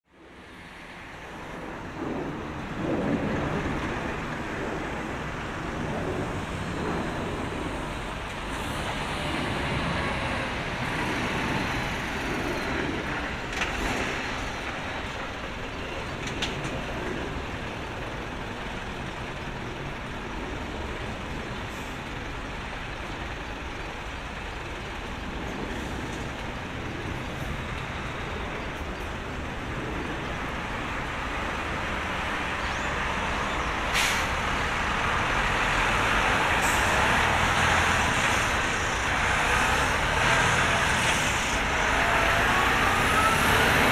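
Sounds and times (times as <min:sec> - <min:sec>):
jet airliner engines roaring: 0:00.1 - 0:43.9.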